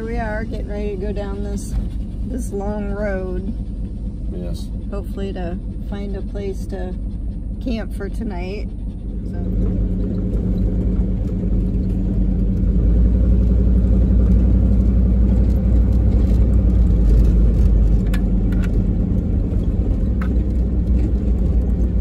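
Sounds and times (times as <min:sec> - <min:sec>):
truck engine and tyres rumbling: 0:00.0 - 0:22.0.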